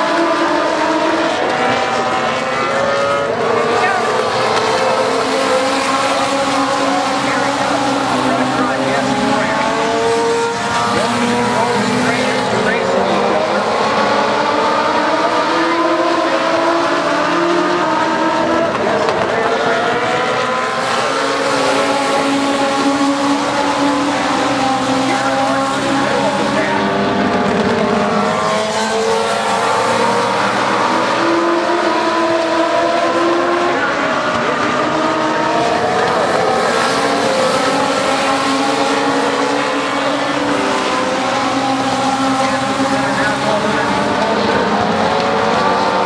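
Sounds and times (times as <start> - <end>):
race car engines: 0.0 - 46.0.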